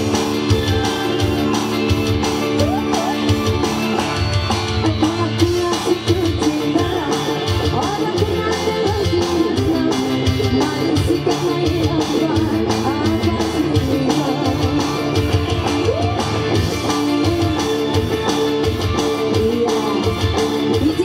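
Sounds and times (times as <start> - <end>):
live band melody: 0.0 - 21.0
steady drum beat: 0.0 - 21.0.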